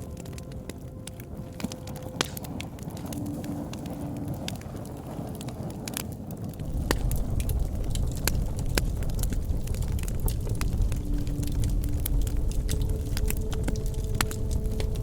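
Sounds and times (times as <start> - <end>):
campfire crackling pops: 0.0 - 15.0
low fire rumble: 0.0 - 15.0.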